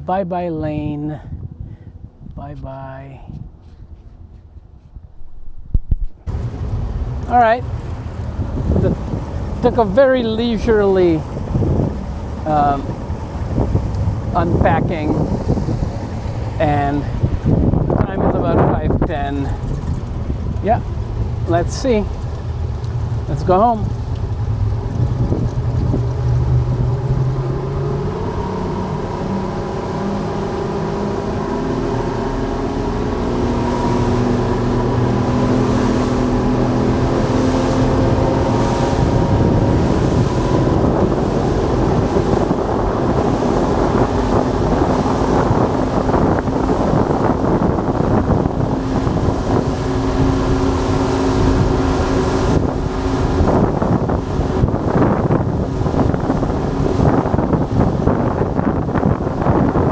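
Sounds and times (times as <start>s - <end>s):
motorboat engine running: 0.0s - 59.9s
wind buffeting microphone: 0.0s - 59.9s.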